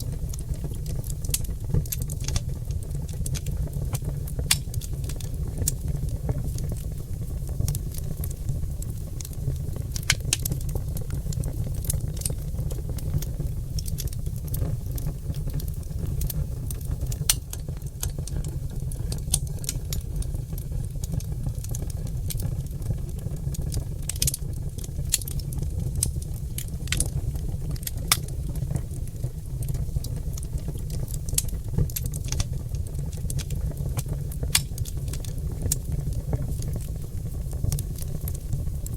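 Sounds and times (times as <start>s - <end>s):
logs crackling and popping: 0.0s - 38.9s
low rumble of fire: 0.0s - 38.9s.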